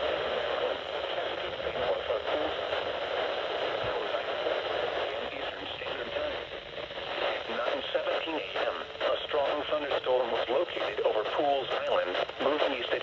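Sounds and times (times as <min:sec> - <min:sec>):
faint voice on radio: 0:00.0 - 0:13.0
radio static hiss: 0:00.0 - 0:13.0.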